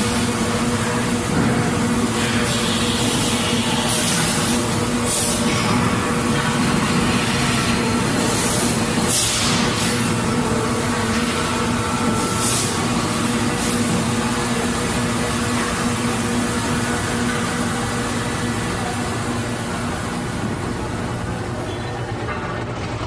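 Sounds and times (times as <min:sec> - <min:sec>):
factory machines hum and clatter: 0:00.0 - 0:23.0.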